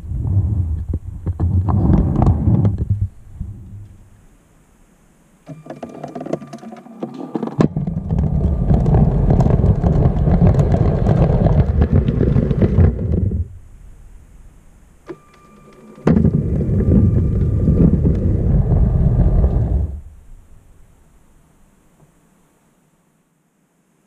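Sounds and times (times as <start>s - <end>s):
faint whine: 0.0s - 24.0s.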